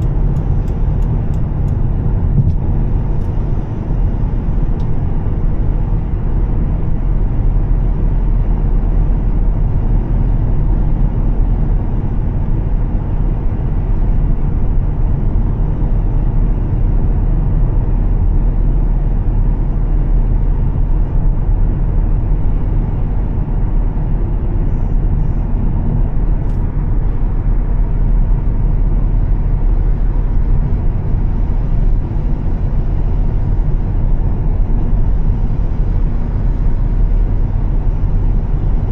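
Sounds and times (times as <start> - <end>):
car engine droning: 0.0 - 38.9.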